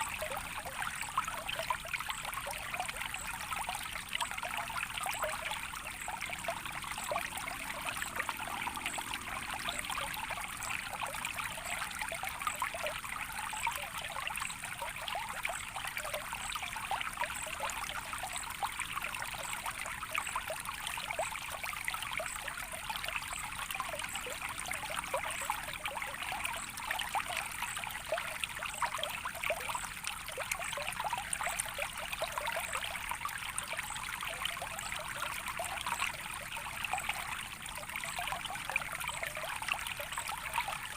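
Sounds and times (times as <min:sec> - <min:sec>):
stream of water trickling: 0:00.0 - 0:40.9.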